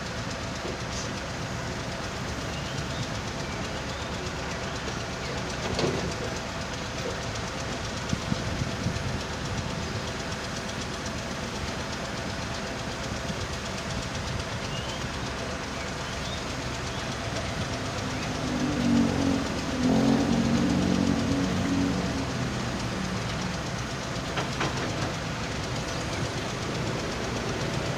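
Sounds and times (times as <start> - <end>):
engine: 0.0 - 27.9
excavator working: 0.0 - 27.9
screening machine rattling: 0.2 - 27.9.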